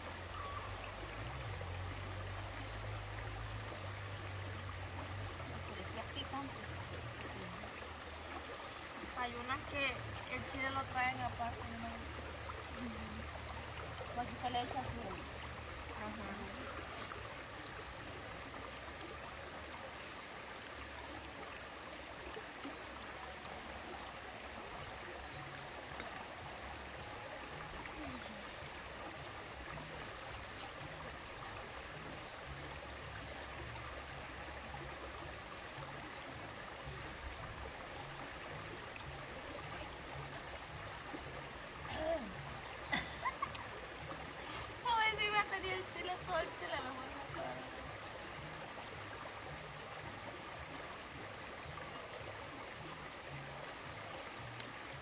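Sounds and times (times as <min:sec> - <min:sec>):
river flowing over stones: 0:00.0 - 0:55.0.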